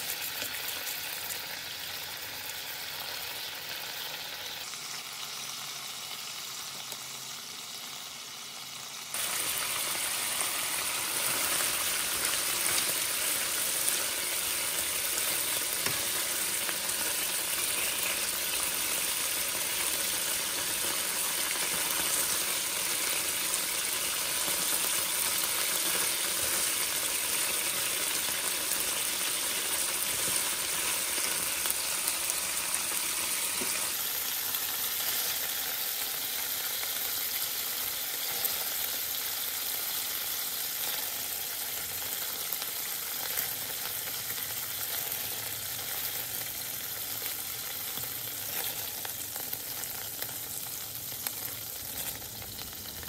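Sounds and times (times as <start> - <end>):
livers sizzling in frying pan: 0.0 - 53.0.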